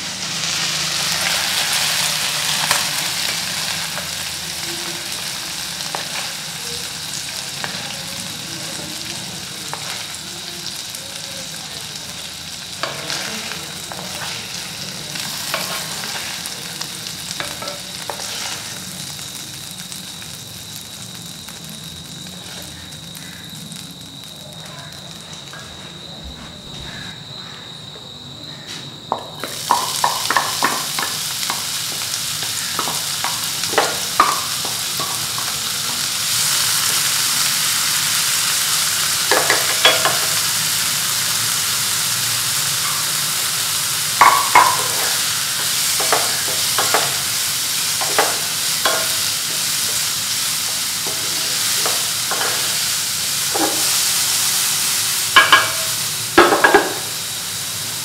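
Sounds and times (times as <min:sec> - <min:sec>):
onions sizzling in oil: 0:00.0 - 0:27.4, 0:28.5 - 0:58.0.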